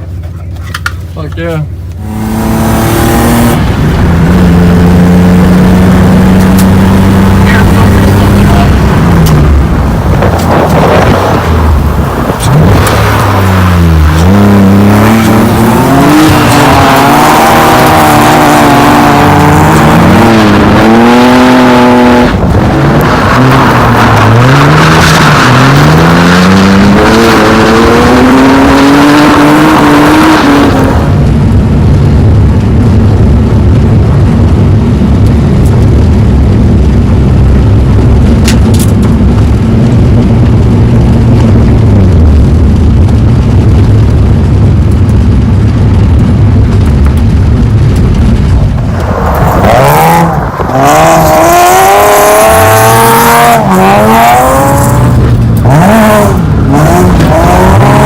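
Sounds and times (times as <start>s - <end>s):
car engine revving: 1.2s - 58.0s.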